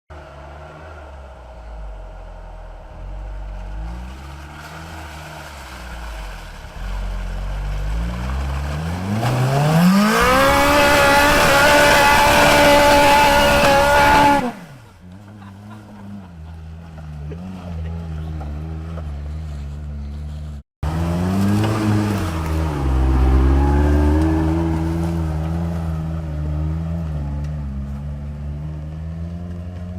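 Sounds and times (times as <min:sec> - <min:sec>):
engine idling and revving: 0:00.1 - 0:29.9.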